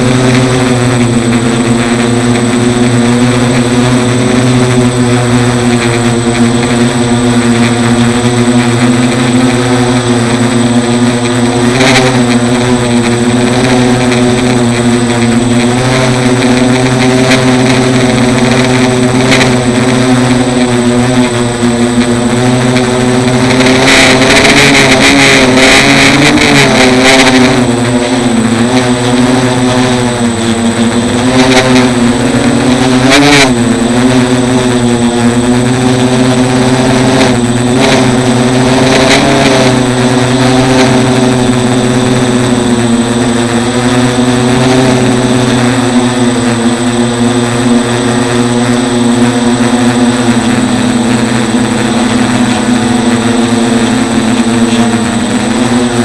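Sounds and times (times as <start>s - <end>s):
drone motors and propellers whining: 0.0s - 56.0s.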